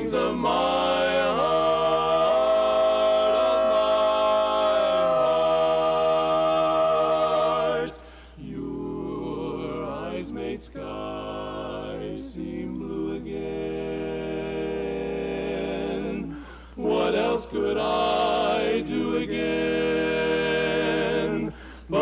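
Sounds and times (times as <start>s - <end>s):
male quartet singing a cappella: 0.0s - 22.0s.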